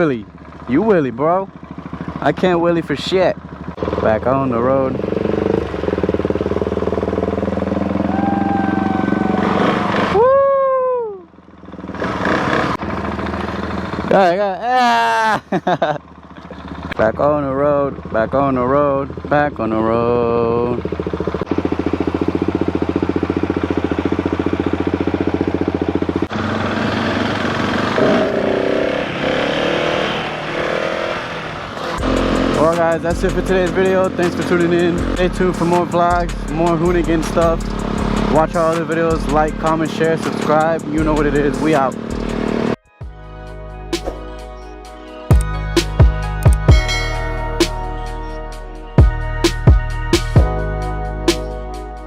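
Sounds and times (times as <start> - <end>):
motorcycle engine running: 0.0 - 42.8, 44.0 - 52.0.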